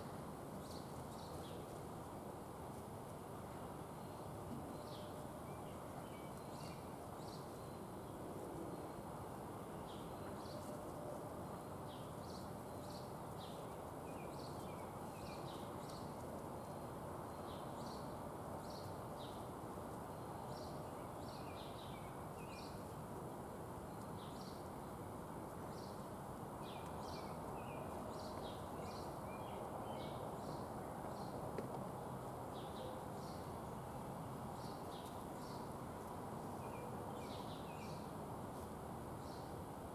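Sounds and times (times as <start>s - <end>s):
small songbirds chirping: 0.0s - 1.8s, 3.9s - 9.0s, 9.7s - 10.8s, 11.5s - 31.5s, 32.2s - 38.2s, 39.1s - 39.9s
outdoor background noise: 0.0s - 39.9s.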